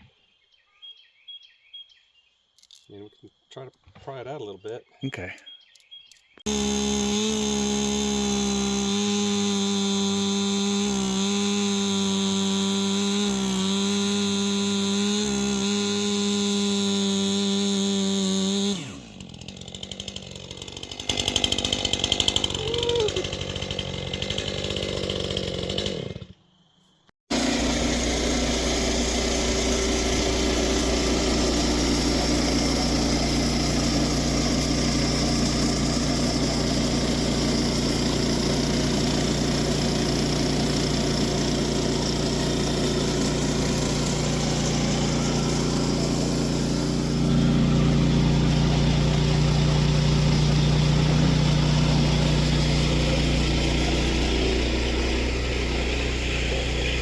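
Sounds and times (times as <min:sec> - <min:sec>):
small gasoline engine running: 0:06.5 - 0:26.4, 0:27.3 - 0:57.0.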